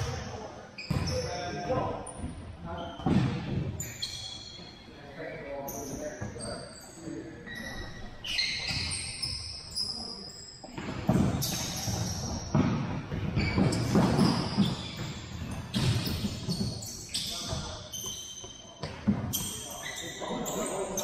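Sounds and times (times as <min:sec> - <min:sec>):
sneakers squeaking: 0:00.0 - 0:21.0.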